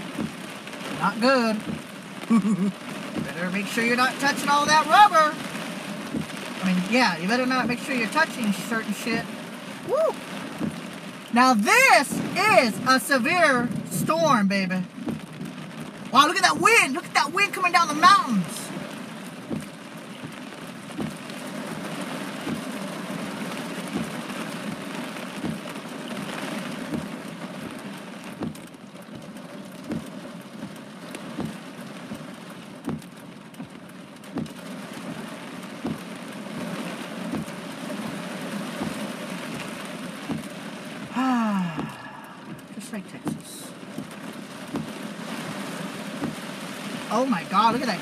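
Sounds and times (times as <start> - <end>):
rain on a car: 0.0 - 48.0.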